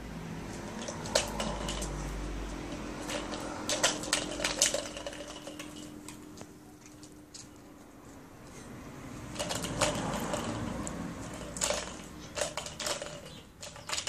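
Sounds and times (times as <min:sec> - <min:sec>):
plastic ball rolling on concrete: 0:00.4 - 0:07.6, 0:09.2 - 0:14.0.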